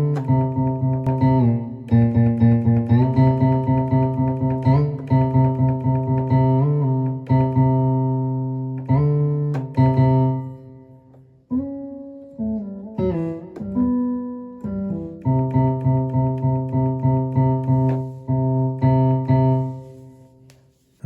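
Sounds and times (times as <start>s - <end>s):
keyboard plucked notes bending: 0.0s - 20.3s.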